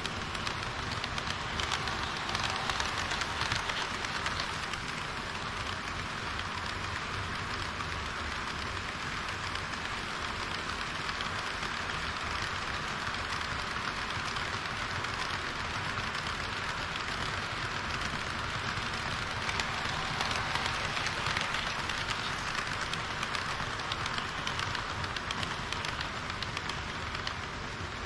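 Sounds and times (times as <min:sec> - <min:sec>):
faint rapid clicks: 0:00.0 - 0:28.0
model train wheels rolling hiss: 0:00.0 - 0:28.0.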